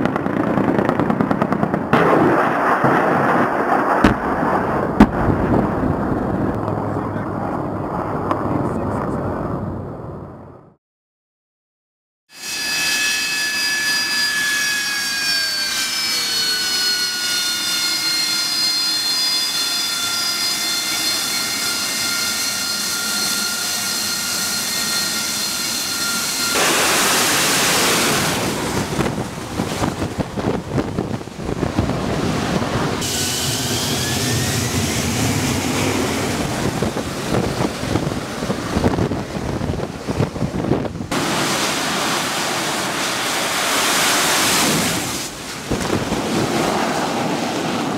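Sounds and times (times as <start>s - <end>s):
jet engine rushing roar: 0.0s - 10.5s, 12.4s - 47.9s
jet engine whine: 0.0s - 10.8s, 12.3s - 47.9s.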